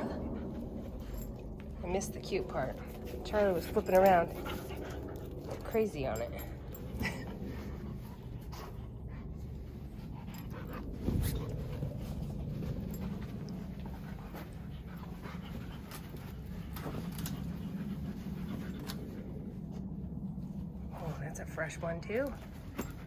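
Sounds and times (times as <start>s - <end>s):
dog panting: 0.0s - 19.8s.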